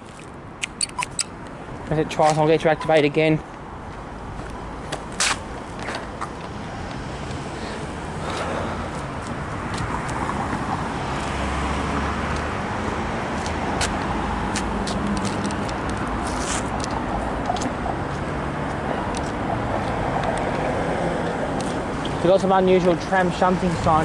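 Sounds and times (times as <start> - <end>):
vehicles driving past: 0.0 - 24.0.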